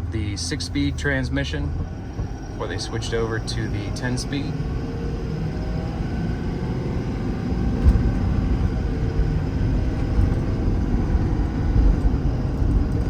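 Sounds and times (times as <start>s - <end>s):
diesel truck engine accelerating: 0.0s - 13.0s.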